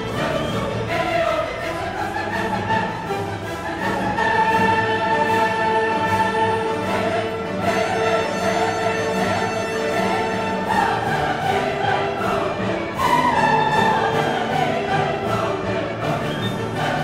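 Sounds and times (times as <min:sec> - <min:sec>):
orchestral music with choir: 0:00.0 - 0:17.0.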